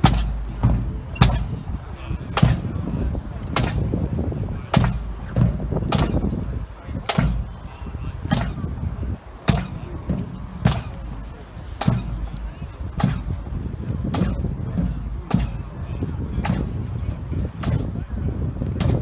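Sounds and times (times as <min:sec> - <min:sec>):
pipe band drums marching beat: 0:00.0 - 0:19.0.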